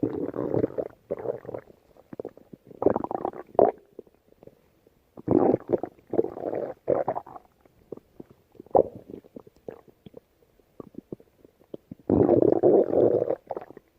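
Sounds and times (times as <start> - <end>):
stomach growling and gurgling: 0.0 - 4.6, 5.2 - 13.9.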